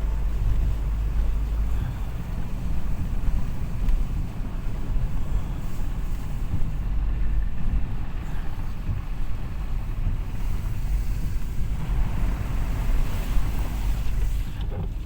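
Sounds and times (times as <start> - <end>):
car rumble inside cabin: 0.0 - 15.0
wind buffeting microphone: 0.0 - 15.0.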